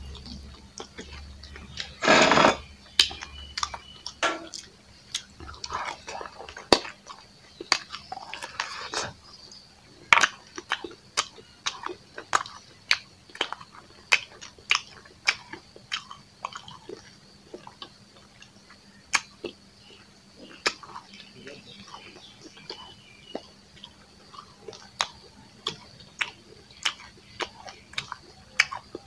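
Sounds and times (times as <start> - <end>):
mouth chewing with wet smacks: 0.0 - 2.0, 2.9 - 29.0.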